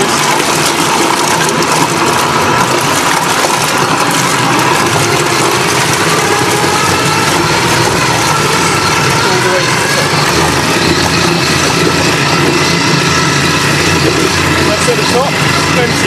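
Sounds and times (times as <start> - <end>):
faint motor whine: 0.0 - 16.0
propeller churning water: 0.0 - 16.0.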